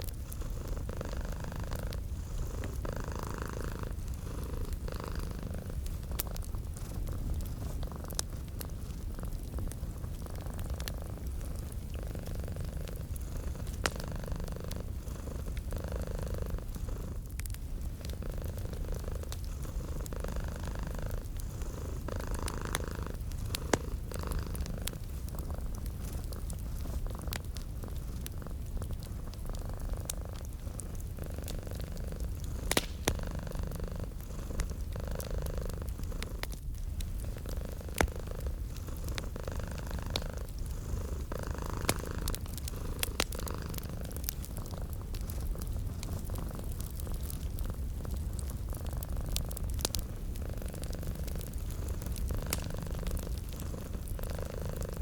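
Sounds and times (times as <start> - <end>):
cat purring: 0.0 - 55.0
fireplace crackling: 0.0 - 55.0.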